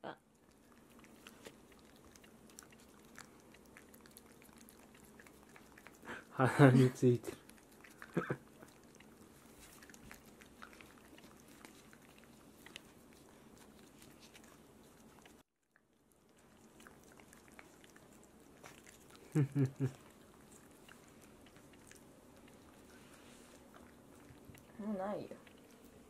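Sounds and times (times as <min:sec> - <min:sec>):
puppy licking and smacking: 0:00.2 - 0:26.0.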